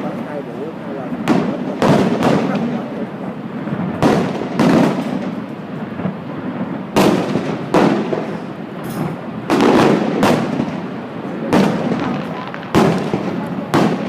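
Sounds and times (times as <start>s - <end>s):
fireworks booms with rumbling echo: 0.0s - 14.0s.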